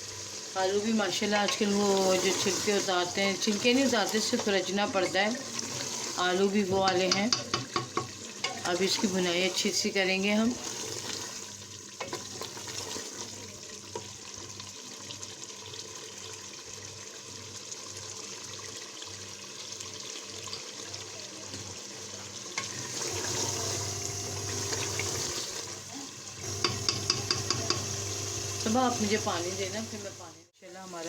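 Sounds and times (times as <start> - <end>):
meat and potatoes sizzling in oil: 0.0 - 31.0.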